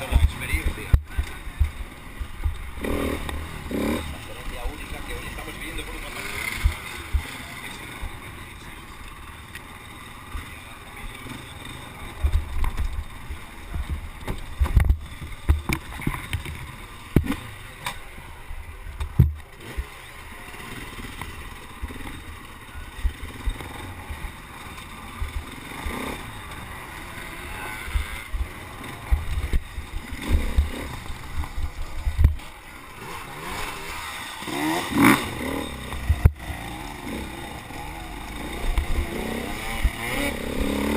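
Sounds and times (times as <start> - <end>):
race vehicle rumbling: 0.0 - 40.9.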